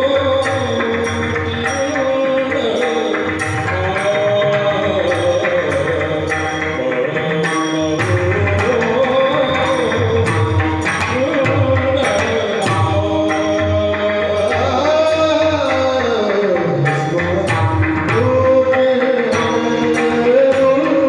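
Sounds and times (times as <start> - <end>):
hand cymbals: 0.0 - 21.0
held accompanying tones: 0.0 - 21.0
man singing devotional melody: 0.0 - 21.0.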